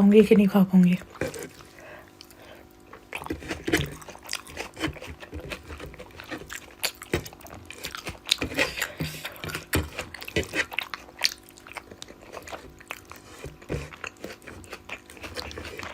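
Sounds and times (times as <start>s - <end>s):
person eating with wet smacks: 1.1s - 15.9s.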